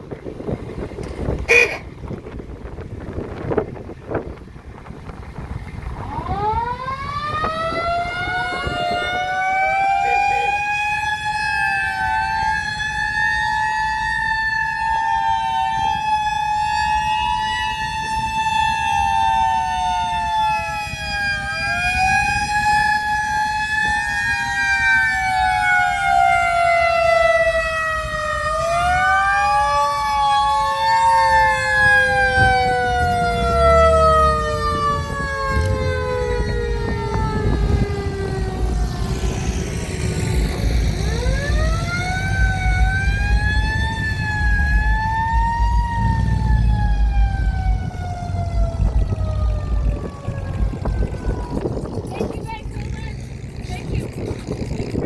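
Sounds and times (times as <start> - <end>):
siren wailing: 5.9 - 55.0.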